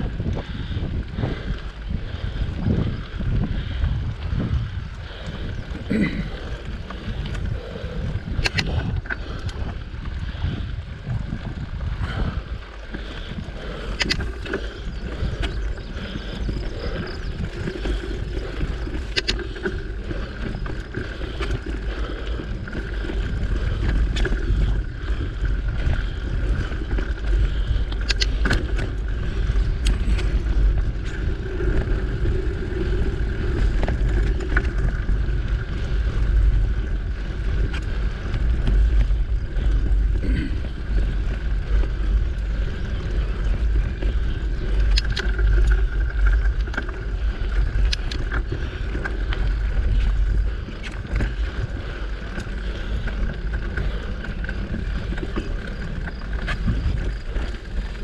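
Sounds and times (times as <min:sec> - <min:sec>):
bike clicks and rattles: 0:00.0 - 0:58.0
tyre and drivetrain noise: 0:00.0 - 0:58.0
wind buffeting microphone: 0:00.0 - 0:58.0.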